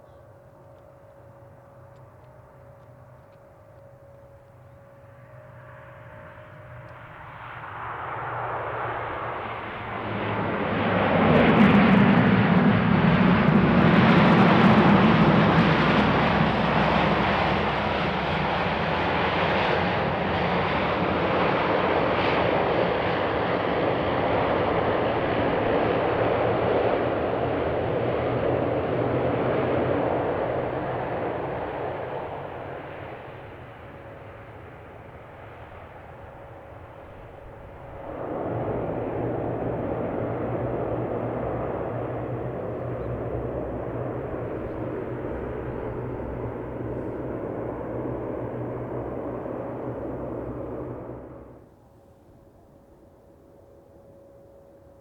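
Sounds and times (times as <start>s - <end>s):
turboprop airliner engine noise: 0.0s - 55.0s.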